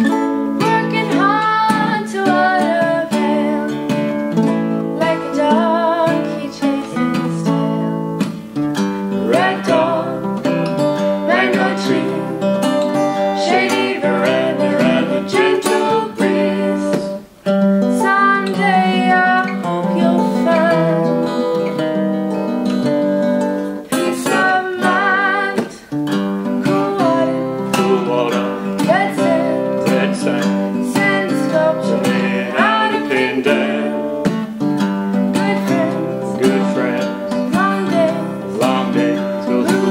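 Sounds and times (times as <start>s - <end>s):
acoustic guitar folk instrumental: 0.0s - 39.9s.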